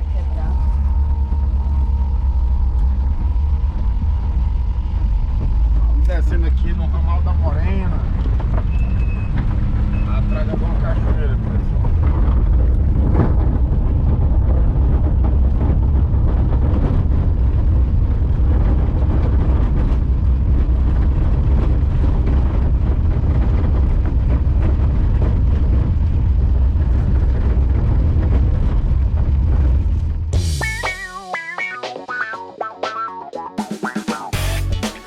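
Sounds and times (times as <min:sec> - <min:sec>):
vehicle driving on dirt road: 0:00.0 - 0:31.1.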